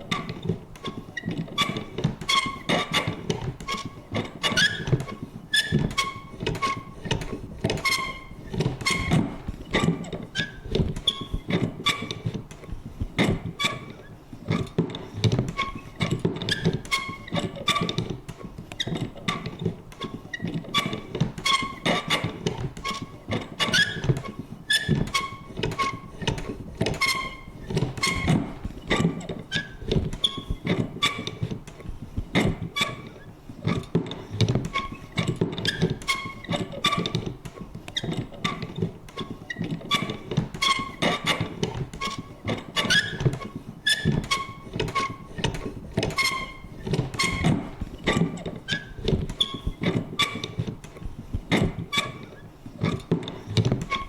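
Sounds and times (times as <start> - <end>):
paper punch clicking and thunking: 0.0 - 54.0
squeaky creaks: 0.0 - 54.0.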